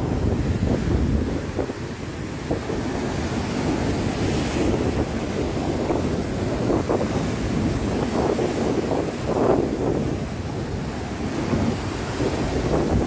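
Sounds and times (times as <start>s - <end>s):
heavy surf on pebble beach: 0.0s - 13.0s
wind buffeting microphone: 0.0s - 13.0s.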